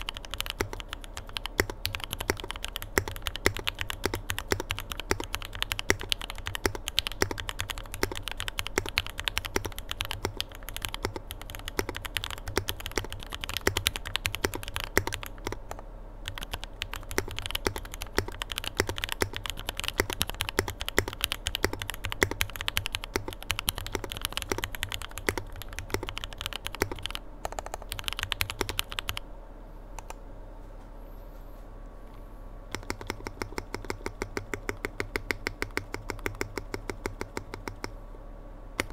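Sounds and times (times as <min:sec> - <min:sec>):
mechanical keyboard typing: 0:00.0 - 0:29.2, 0:32.7 - 0:37.9.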